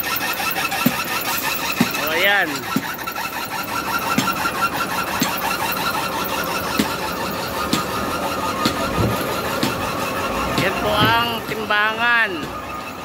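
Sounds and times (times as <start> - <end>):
conveyor rumble and whine: 0.0 - 13.0.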